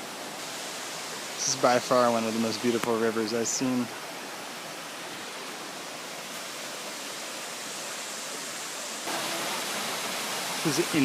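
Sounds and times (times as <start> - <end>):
mountain river rushing: 0.0 - 11.0.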